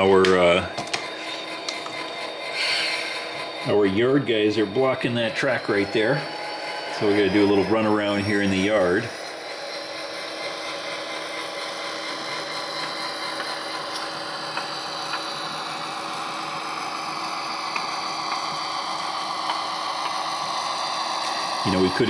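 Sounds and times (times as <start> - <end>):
model train hum and hiss: 0.0 - 22.0.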